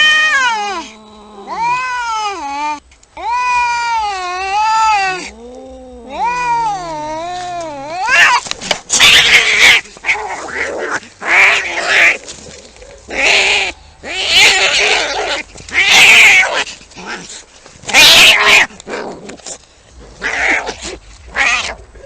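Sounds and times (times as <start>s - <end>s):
cats yowling and screeching: 0.0s - 19.5s, 20.1s - 22.0s.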